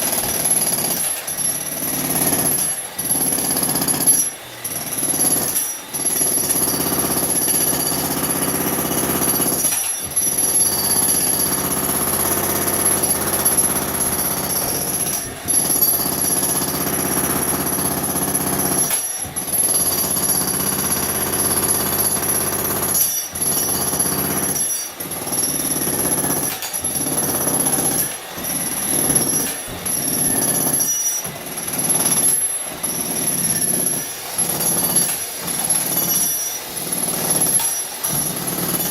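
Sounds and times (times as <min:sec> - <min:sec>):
electric jackhammer hammering: 0:00.0 - 0:38.9.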